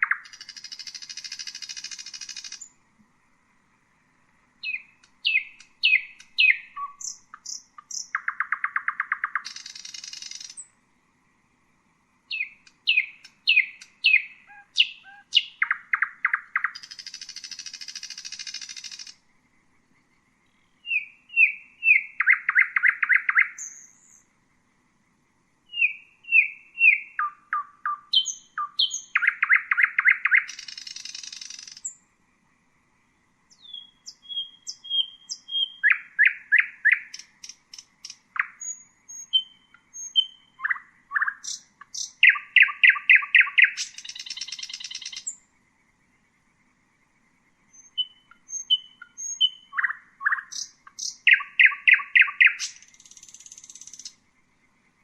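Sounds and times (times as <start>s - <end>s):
nightingale singing: 0.0s - 2.9s, 3.6s - 10.9s, 12.2s - 24.4s, 25.6s - 32.2s, 32.8s - 55.0s.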